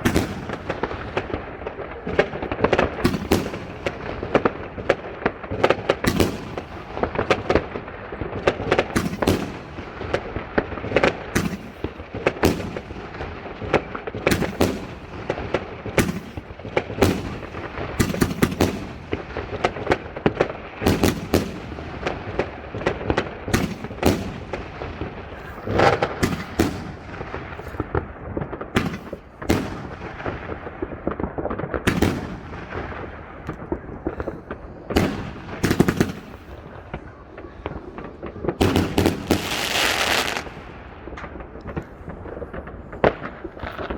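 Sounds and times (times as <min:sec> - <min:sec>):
crackling rumble of explosions: 0:00.0 - 0:43.9
fireworks bangs and cracks: 0:00.0 - 0:43.9.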